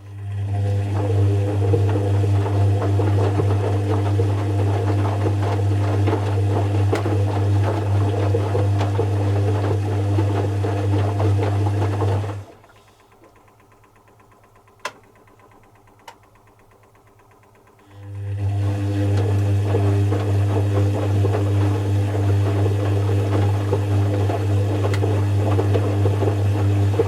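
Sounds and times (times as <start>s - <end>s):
washing machine drum hum and rattle: 0.0s - 27.0s.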